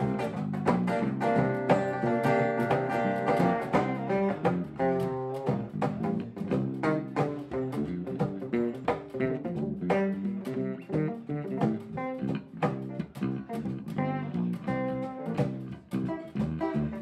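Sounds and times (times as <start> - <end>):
guitar picking quick runs: 0.0 - 17.0.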